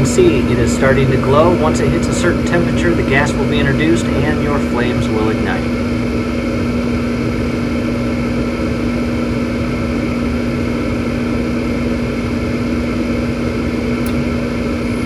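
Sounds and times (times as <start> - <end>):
furnace inducer motor humming: 0.0 - 15.0.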